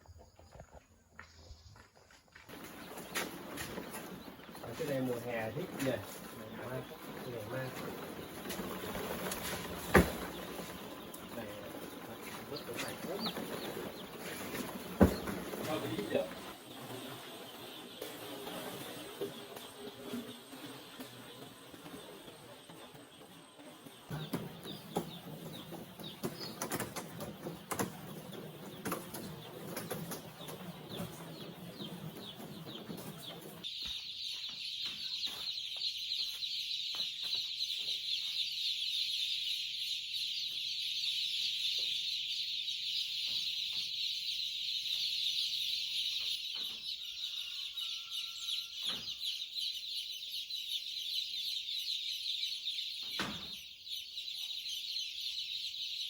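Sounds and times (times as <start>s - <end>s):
many birds chirping: 0.0s - 56.0s
chickens clucking: 2.5s - 56.0s.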